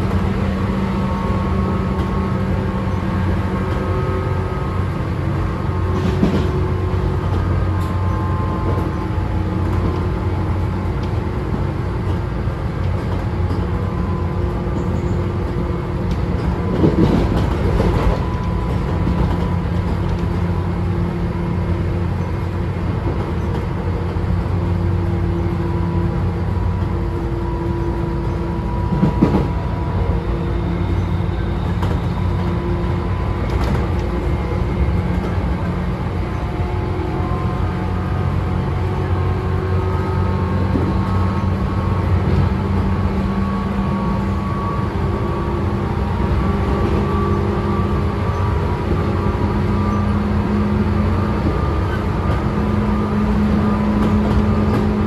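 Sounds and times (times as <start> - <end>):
thumps from the track: 0.0 - 26.1, 26.7 - 55.0
electric train motor whining: 0.0 - 55.0
train wheels rumbling on rails: 0.0 - 55.0.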